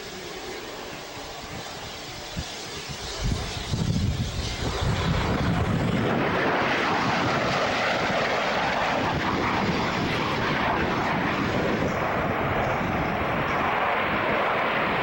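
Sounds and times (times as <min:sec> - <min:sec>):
airplane engine running: 0:00.0 - 0:15.0.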